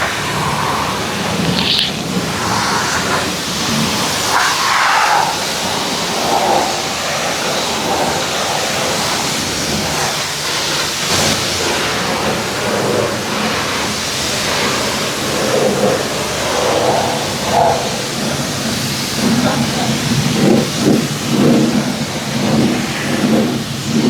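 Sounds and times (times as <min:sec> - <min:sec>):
pressure washer spraying water: 0:00.0 - 0:24.0.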